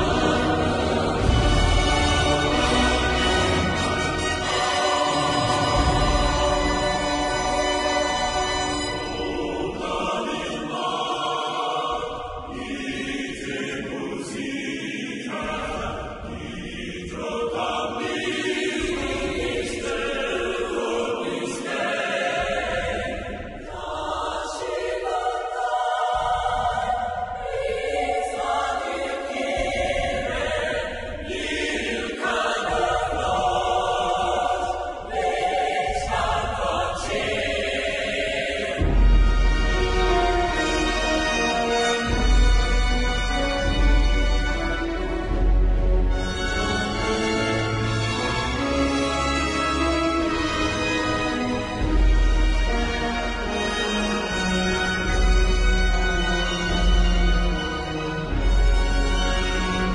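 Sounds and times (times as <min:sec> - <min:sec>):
choir singing sustained chords: 0:00.0 - 0:59.9
orchestral music: 0:00.0 - 0:59.9.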